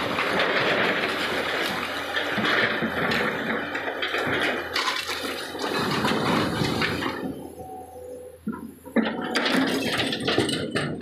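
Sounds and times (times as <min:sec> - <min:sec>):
excavator bucket crunching into rock: 0:00.0 - 0:07.6, 0:09.0 - 0:11.0.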